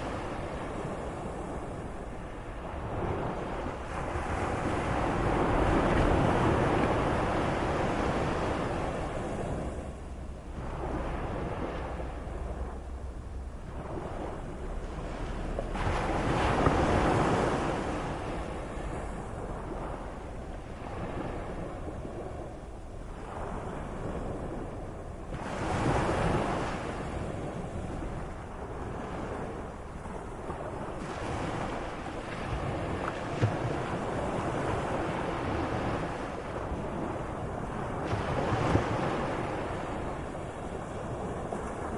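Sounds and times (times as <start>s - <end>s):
waves breaking: 0.0s - 41.9s.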